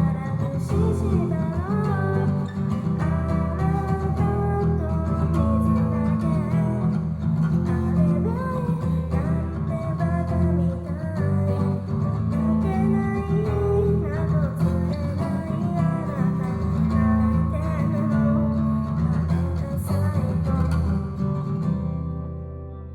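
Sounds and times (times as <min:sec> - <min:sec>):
person singing pop song: 0:00.0 - 0:21.4
acoustic guitar strummed and picked: 0:00.0 - 0:22.9.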